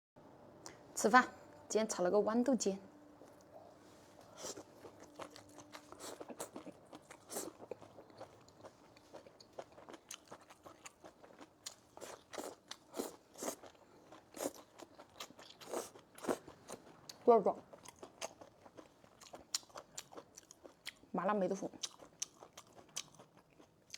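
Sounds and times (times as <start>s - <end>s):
person chewing food: 3.2s - 21.1s, 21.8s - 23.9s.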